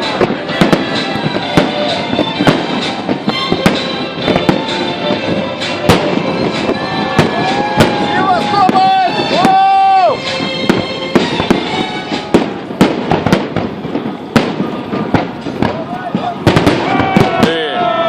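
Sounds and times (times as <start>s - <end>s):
fireworks crackle: 0.0s - 18.0s
fireworks cracks and bangs: 0.0s - 18.0s.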